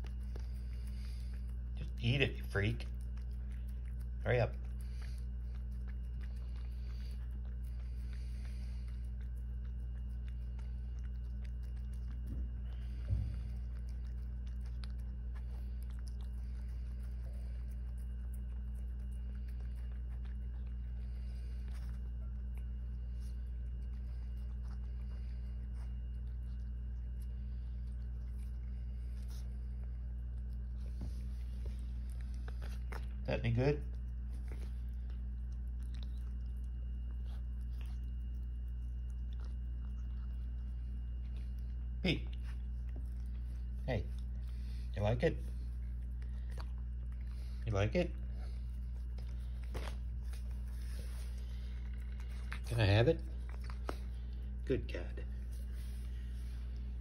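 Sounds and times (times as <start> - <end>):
cat chewing: 0.0 - 57.0
steady low hum: 0.0 - 57.0.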